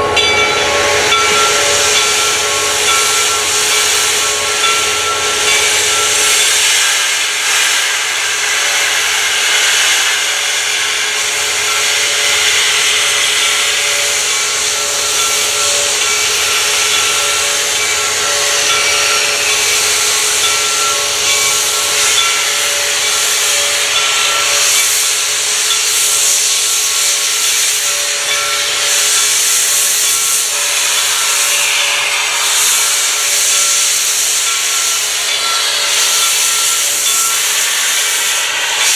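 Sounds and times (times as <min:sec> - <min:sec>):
steam hissing: 0:00.0 - 0:38.9.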